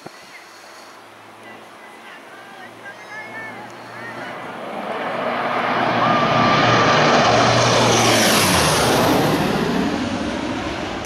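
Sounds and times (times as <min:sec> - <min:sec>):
propeller plane drone overhead: 0:00.0 - 0:11.0.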